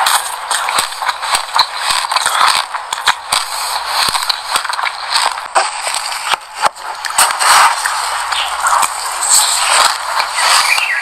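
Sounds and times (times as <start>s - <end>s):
crunchy chewing of seeds: 0.0s - 11.0s.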